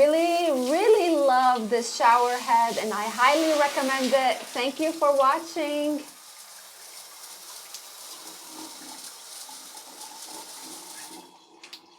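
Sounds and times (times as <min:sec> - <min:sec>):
water spraying from shower head: 0:00.0 - 0:11.2.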